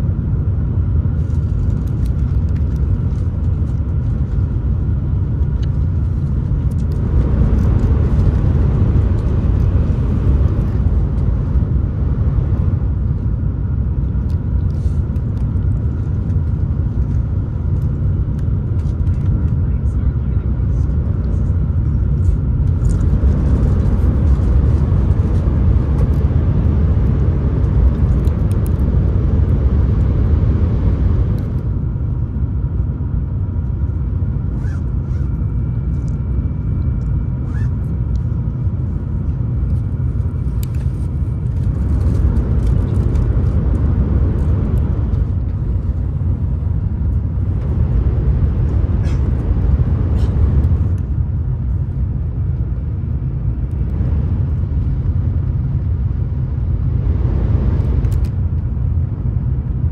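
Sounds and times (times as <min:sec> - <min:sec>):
train running low rumble: 0:00.0 - 0:59.9.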